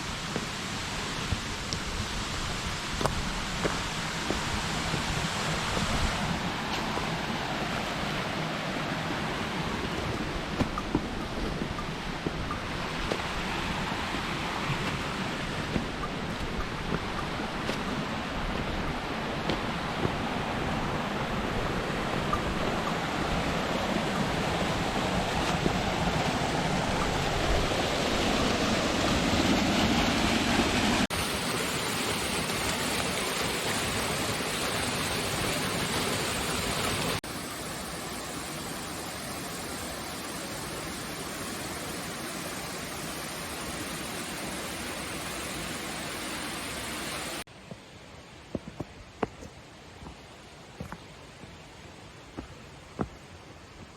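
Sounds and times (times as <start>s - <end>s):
rushing mountain water: 0.0s - 47.5s.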